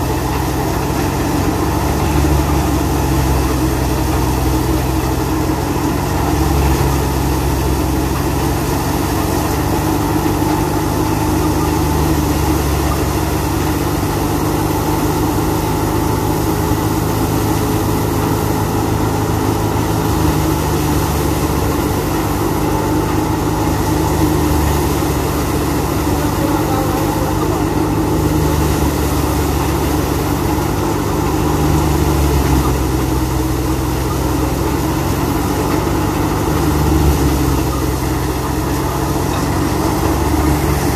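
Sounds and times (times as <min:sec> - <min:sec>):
thresher drum whirring: 0:00.0 - 0:40.9
tractor diesel engine running: 0:00.0 - 0:40.9.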